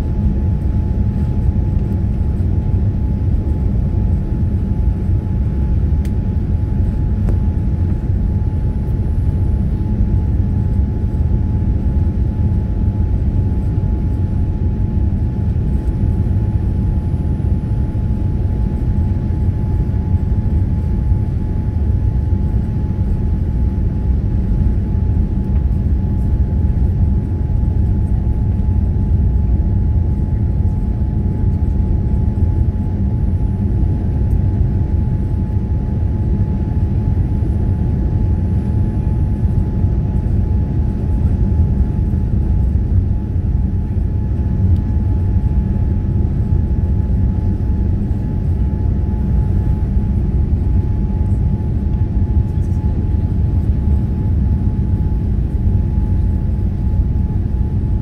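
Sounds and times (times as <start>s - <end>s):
aircraft cabin engine rumble: 0.0s - 58.0s
thin steady whine: 0.0s - 58.0s.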